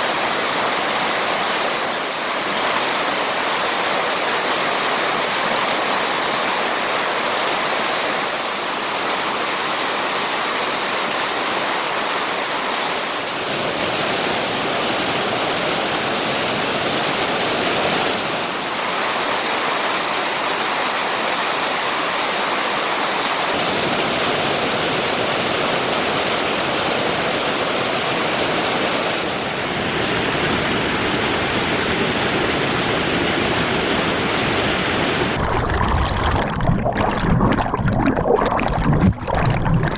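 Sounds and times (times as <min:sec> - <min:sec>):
waterfall rushing: 0:00.0 - 0:29.6, 0:35.4 - 0:39.9.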